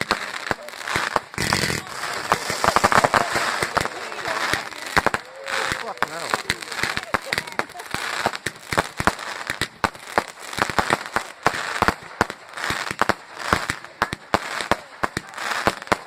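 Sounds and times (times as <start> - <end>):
fireworks cracking and banging: 0.0 - 16.0
hissing crackle: 0.0 - 16.0.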